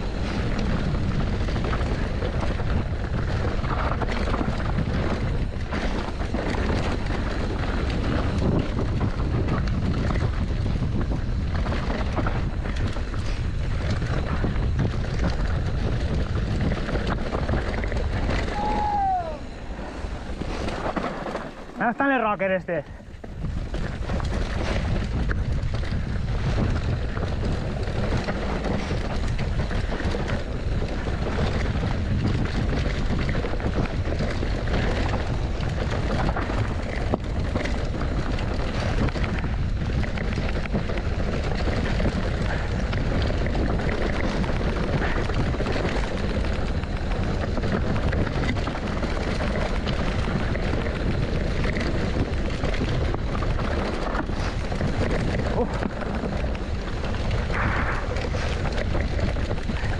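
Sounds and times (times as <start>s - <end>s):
bike rattling over stones: 0.0s - 59.9s
wind buffeting microphone: 0.0s - 59.9s.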